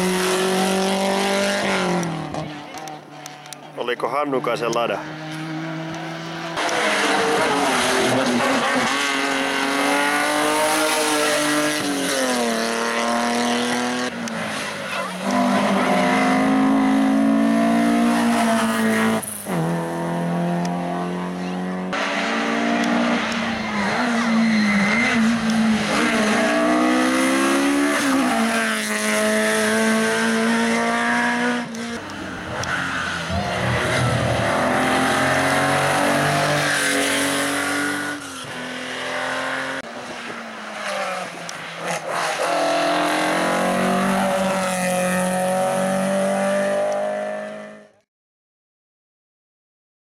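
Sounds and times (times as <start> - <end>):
rally cars accelerating hard: 0.0 - 48.0.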